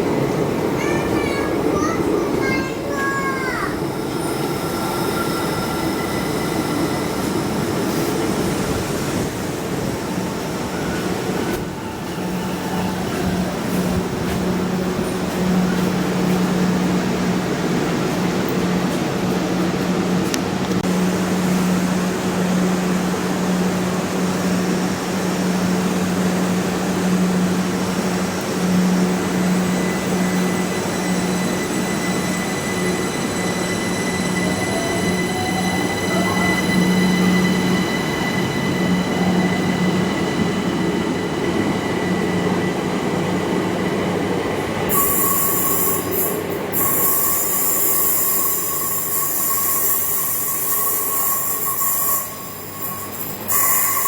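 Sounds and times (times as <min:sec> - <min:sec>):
train low hum: 0:00.0 - 0:54.0.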